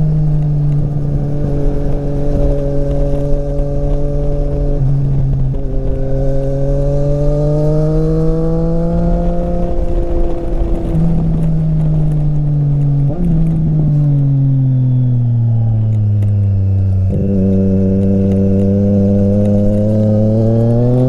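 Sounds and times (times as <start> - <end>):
motorcycle engine revving: 0.0 - 21.0
wind rumble: 0.0 - 21.0.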